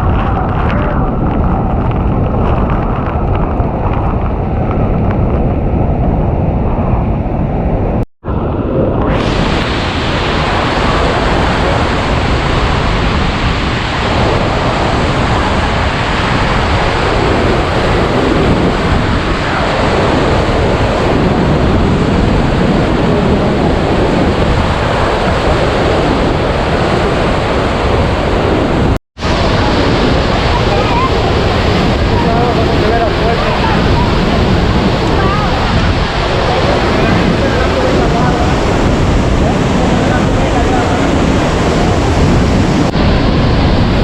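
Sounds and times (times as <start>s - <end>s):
wind buffeting microphone: 0.0s - 44.0s
waterfall crashing: 8.3s - 44.0s.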